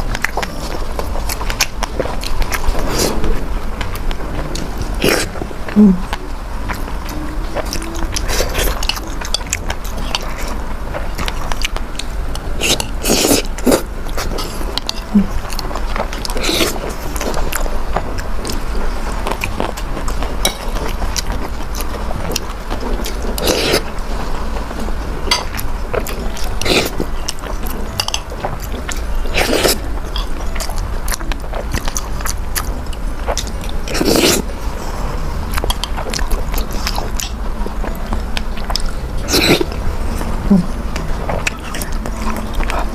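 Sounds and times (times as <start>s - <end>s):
person chewing: 0.0s - 42.9s.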